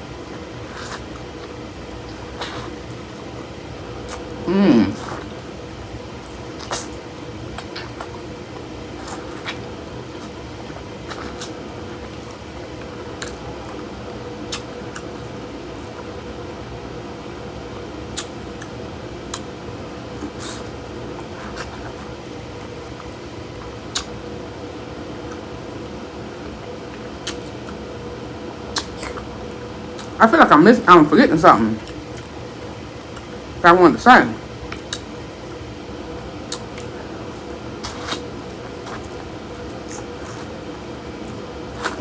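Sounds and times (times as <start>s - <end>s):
wet squishy eating sounds: 0.0s - 30.2s, 30.8s - 33.6s, 34.3s - 42.0s
steady hum: 0.0s - 42.0s.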